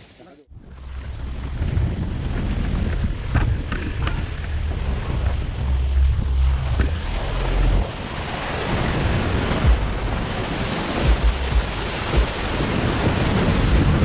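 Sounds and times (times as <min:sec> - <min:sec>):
wind buffeting microphone: 0:00.5 - 0:14.0.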